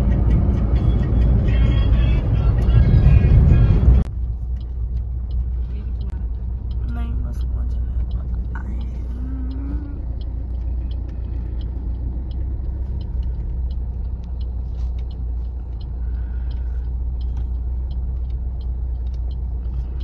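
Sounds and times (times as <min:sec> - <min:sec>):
car engine and road drone: 0:00.0 - 0:20.0.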